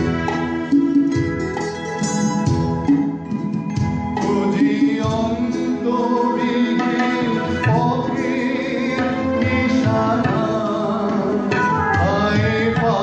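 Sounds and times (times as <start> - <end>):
hand drum beats: 0.0 - 13.0
instrumental melody: 0.0 - 13.0.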